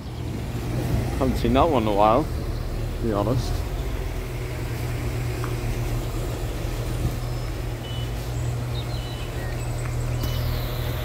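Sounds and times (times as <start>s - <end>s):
birds chirping: 0.0s - 11.0s
diesel engines idling: 0.0s - 11.0s.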